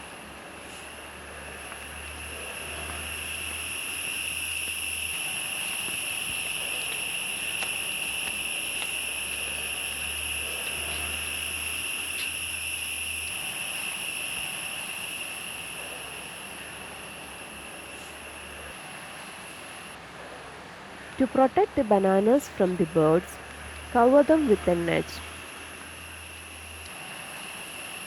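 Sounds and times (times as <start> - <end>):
high-pitched insect drone: 0.0 - 20.0, 22.6 - 28.0.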